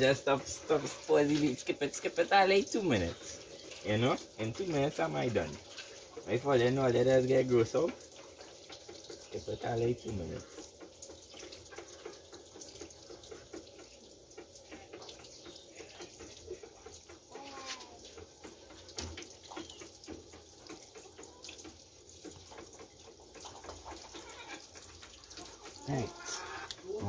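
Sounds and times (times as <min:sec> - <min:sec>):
splashing and handling: 0:00.0 - 0:27.0
tap water running into metal sink: 0:00.0 - 0:27.0.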